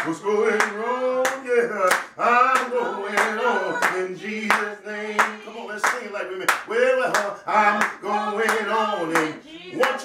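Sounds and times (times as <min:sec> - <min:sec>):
hand clapping: 0:00.0 - 0:10.0
man singing gospel song: 0:00.0 - 0:10.0.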